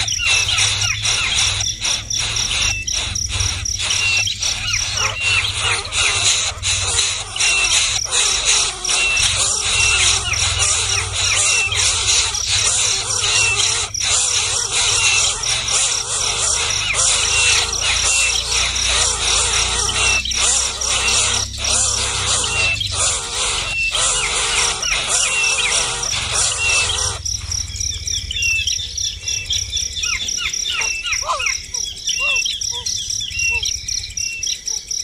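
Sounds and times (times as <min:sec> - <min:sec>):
baby birds squealing and chirping: 0:00.0 - 0:34.5.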